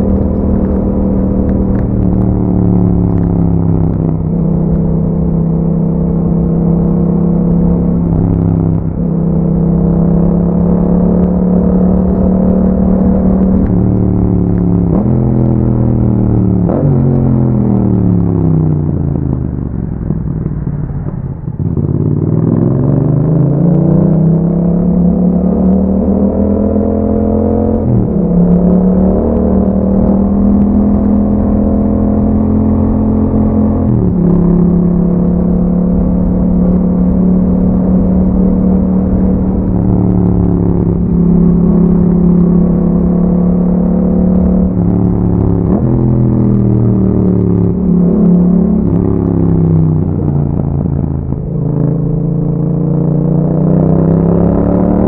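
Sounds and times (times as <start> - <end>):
motorcycle engine running: 0.0 - 25.2, 26.0 - 55.0.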